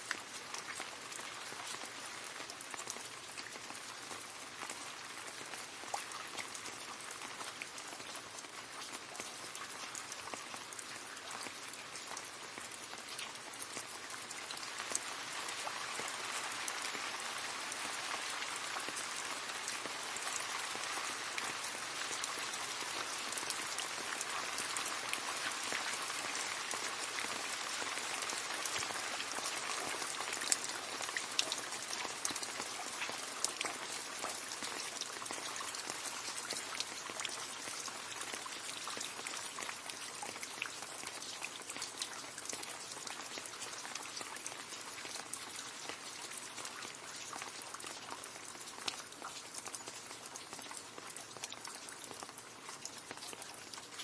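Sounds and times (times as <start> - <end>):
rain splashing into puddle: 0.0 - 54.0.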